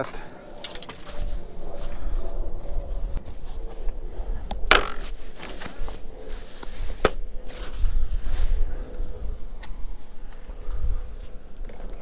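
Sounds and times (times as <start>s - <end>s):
wind rumble on microphone: 0.2s - 12.0s.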